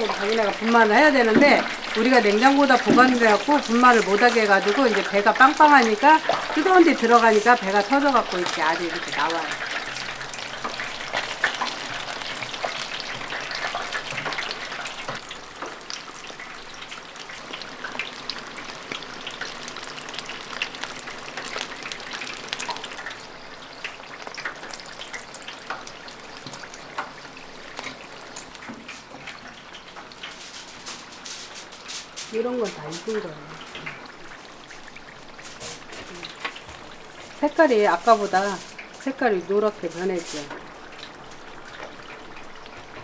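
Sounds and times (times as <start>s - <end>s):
food deep-frying in hot oil: 0.0s - 43.0s.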